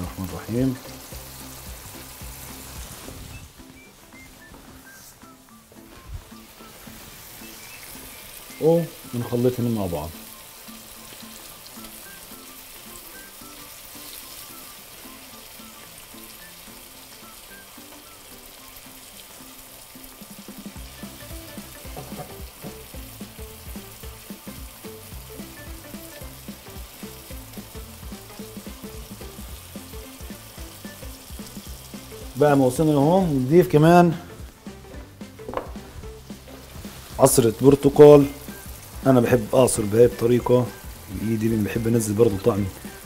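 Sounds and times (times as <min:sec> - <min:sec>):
background music with a beat: 0:00.0 - 0:09.3, 0:10.1 - 0:43.0
shrimp sizzling in a pan: 0:00.0 - 0:43.0.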